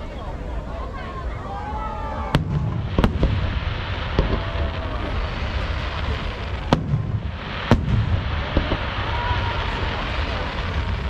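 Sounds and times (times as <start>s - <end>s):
fireworks bangs: 2.0s - 11.0s.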